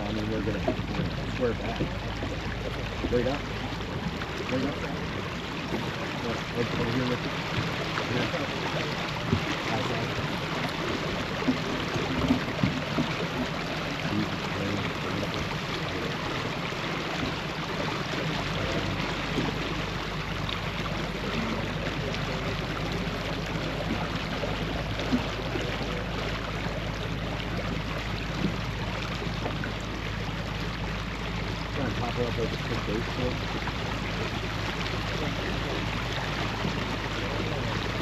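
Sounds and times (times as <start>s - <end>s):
low rumble: 0.0s - 38.0s
rushing water: 0.0s - 38.0s.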